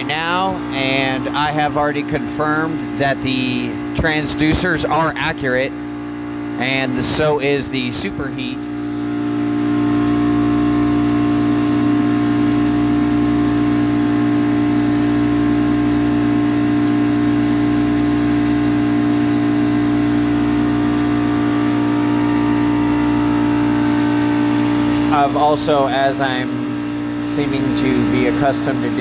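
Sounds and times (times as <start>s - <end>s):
compressor humming: 0.0s - 29.0s.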